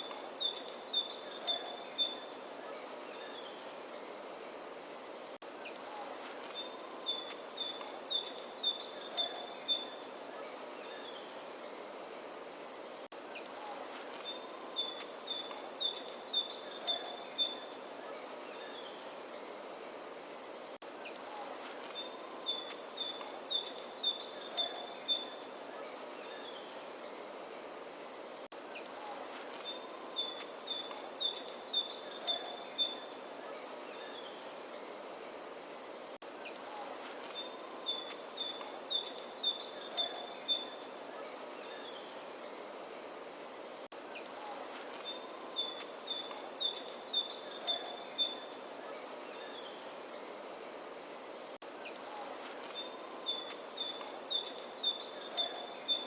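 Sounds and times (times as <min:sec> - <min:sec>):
steady outdoor hiss: 0:00.0 - 0:56.0.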